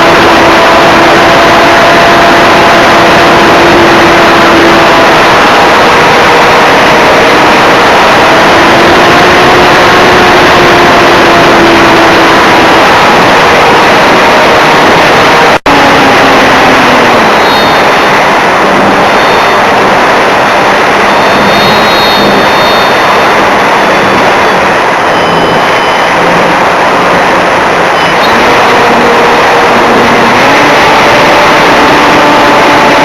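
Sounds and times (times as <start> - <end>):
electric motor and propeller whine: 0.0 - 33.0.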